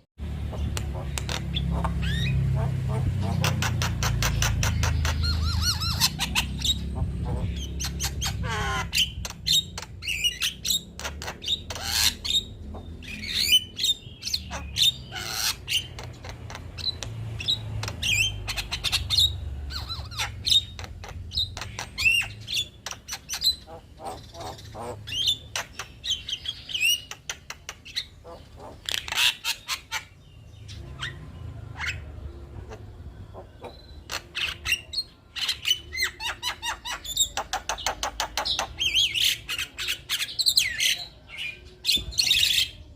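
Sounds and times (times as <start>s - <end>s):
myna bird singing: 0.0s - 42.9s.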